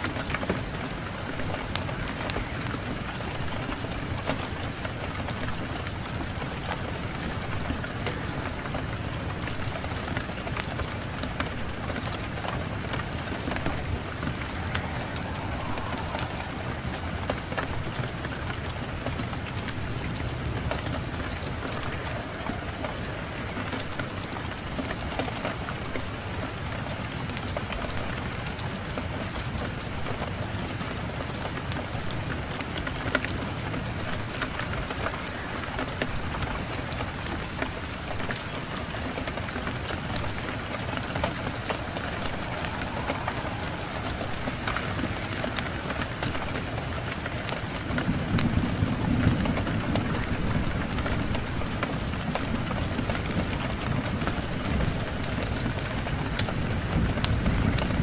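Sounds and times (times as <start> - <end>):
low rush of wind: 0.0 - 58.0
fire crackling and popping: 0.1 - 26.0, 34.0 - 58.0.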